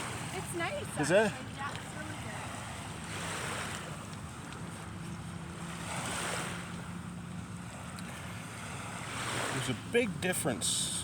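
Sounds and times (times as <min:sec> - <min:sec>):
small waves washing ashore: 0:00.0 - 0:11.0.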